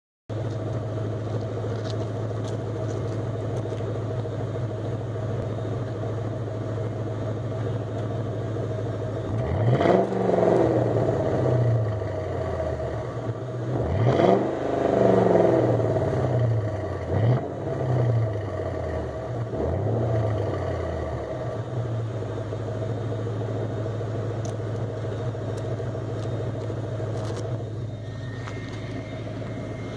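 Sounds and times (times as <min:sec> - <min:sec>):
car exhaust idling and revving: 0:00.3 - 0:29.9.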